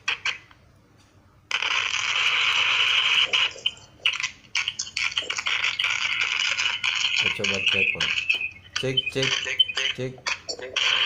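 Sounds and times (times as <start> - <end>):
hissing static through phone speaker: 1.5 - 11.0.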